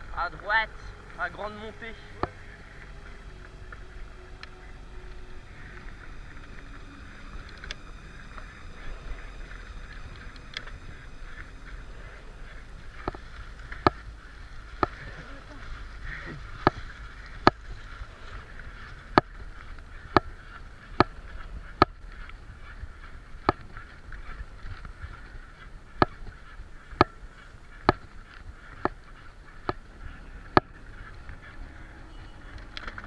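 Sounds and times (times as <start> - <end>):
bicycle clicking: 0.0 - 33.0.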